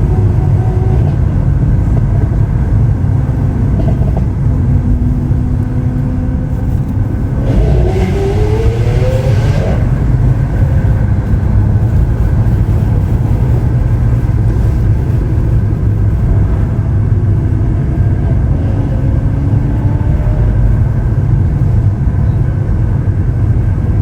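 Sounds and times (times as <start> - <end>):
car engine accelerating: 0.0 - 24.0
car engine and road rumble: 0.0 - 24.0.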